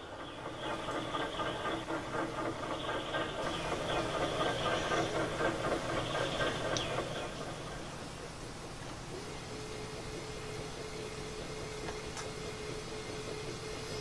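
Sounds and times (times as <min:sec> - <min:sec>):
train locomotive engine pulsing: 0:00.0 - 0:14.0.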